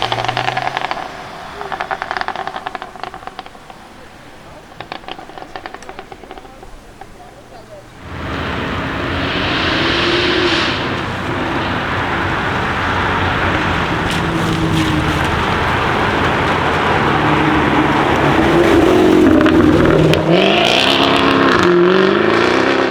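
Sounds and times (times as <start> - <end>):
car engine running loud: 0.0 - 5.9, 7.8 - 22.9
exhaust crackles: 0.0 - 22.9.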